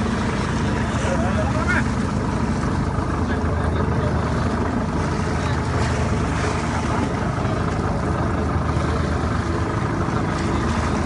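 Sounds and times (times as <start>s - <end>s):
boat engine running: 0.0s - 11.0s
water splashing: 0.0s - 11.0s.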